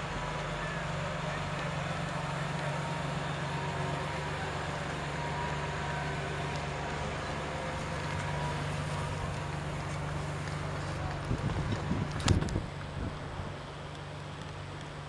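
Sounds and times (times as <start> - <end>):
pickup truck engine humming: 0.0 - 15.0.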